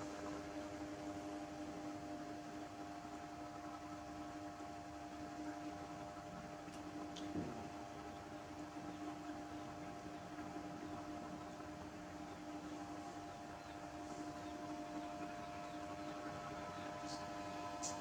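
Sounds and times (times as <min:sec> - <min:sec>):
mechanical hum of held tones: 0:00.0 - 0:18.0.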